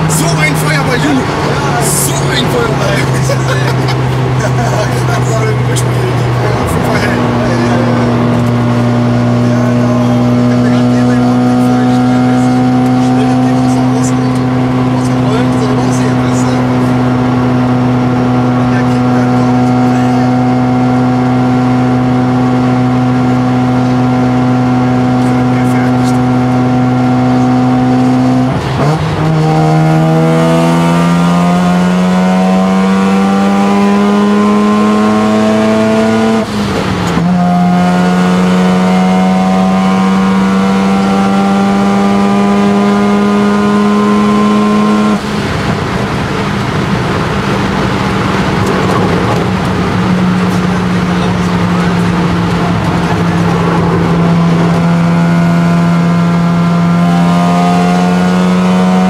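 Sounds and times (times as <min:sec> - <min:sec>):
rotary engine revving through gears: 0:00.0 - 0:59.0
wind and road noise: 0:00.0 - 0:59.0.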